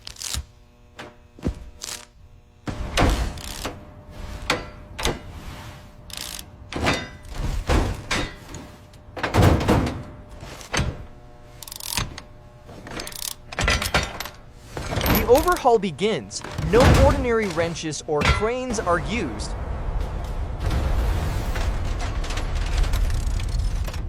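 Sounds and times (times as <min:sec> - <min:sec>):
faint steady hum: 0:00.0 - 0:24.0
heavy metallic thuds and clanks: 0:01.0 - 0:24.0.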